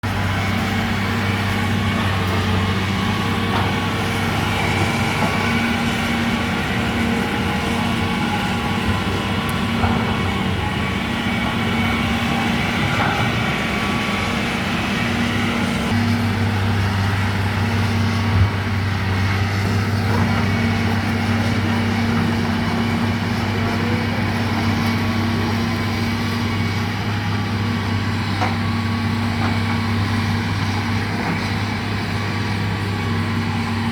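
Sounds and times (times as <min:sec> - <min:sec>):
heavy engine droning: 0:00.0 - 0:33.9.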